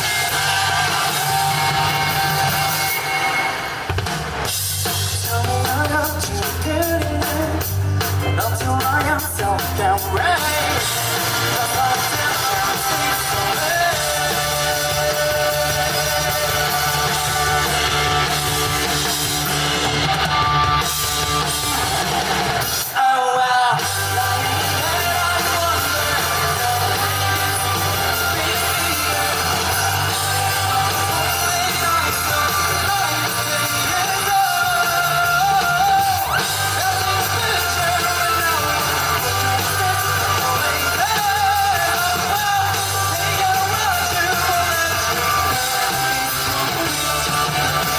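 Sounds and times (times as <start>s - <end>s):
person singing: 0.0s - 3.4s, 5.0s - 19.0s, 21.2s - 47.9s
bass: 0.0s - 47.9s
drums: 0.0s - 47.9s
electric guitars: 0.0s - 47.9s.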